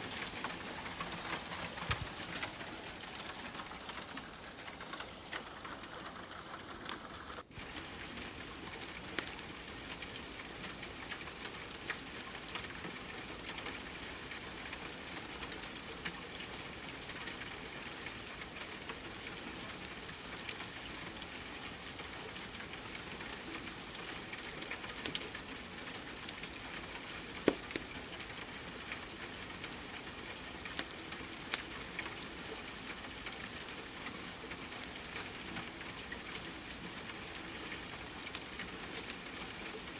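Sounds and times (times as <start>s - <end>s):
rain hiss: 0.0s - 39.9s
wood fire crackling: 0.0s - 39.9s.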